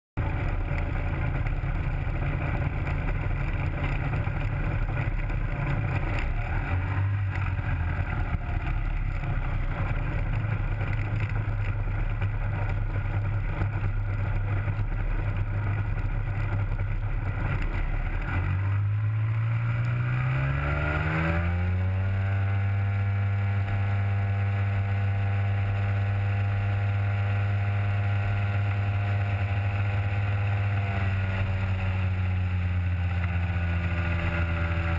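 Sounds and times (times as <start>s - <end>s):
ultralight propeller engine running: 0.2s - 20.7s, 21.6s - 34.9s.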